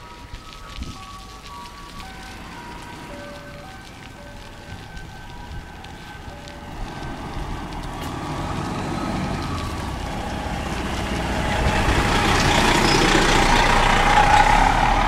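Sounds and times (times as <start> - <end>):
motor vehicle approaching: 0.0 - 15.0.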